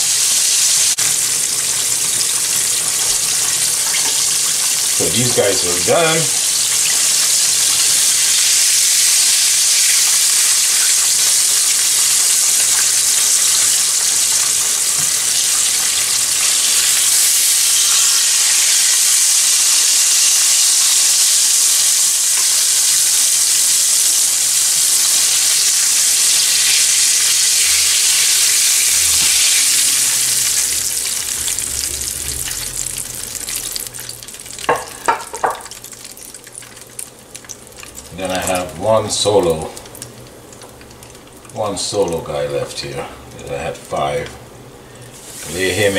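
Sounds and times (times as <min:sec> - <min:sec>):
fish sizzling in a frying pan: 0:00.0 - 0:45.9.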